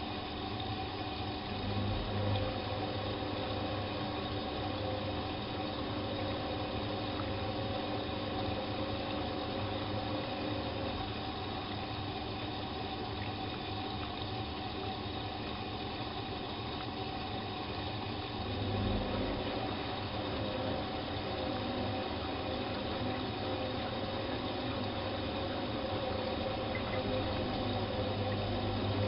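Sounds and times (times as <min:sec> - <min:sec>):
washing machine motor hum: 0:00.0 - 0:29.0
water sloshing in drum: 0:00.0 - 0:29.0.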